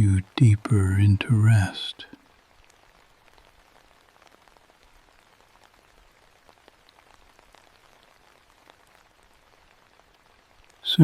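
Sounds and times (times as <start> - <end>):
rain hiss: 0.0 - 11.0
raindrop ticks: 0.0 - 11.0.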